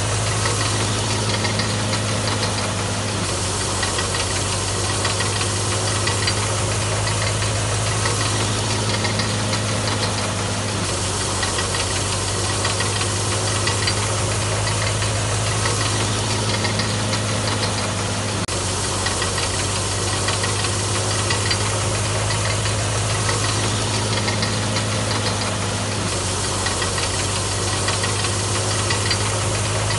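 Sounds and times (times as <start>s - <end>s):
low motor hum: 0.0s - 29.9s
thresher drum rattling: 0.0s - 29.9s.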